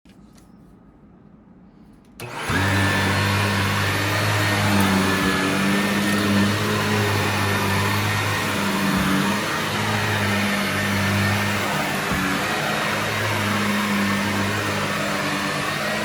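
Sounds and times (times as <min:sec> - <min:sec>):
vacuum cleaner motor whining: 0:02.2 - 0:16.0.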